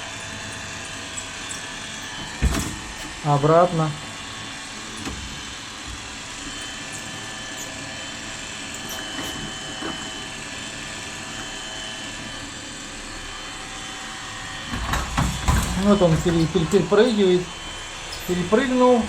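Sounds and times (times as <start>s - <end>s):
robot vacuum cleaner humming: 0.0s - 19.0s.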